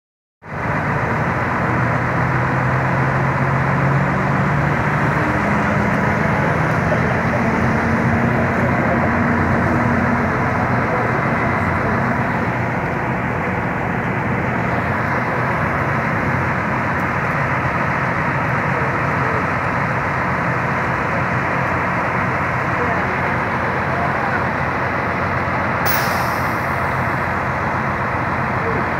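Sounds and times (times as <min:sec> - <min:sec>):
diesel locomotive engine: 0:00.4 - 0:28.9.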